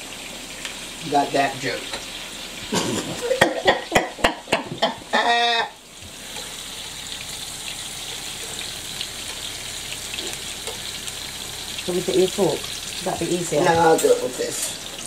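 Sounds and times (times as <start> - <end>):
fritters sizzling in a frying pan: 0.0 - 15.0.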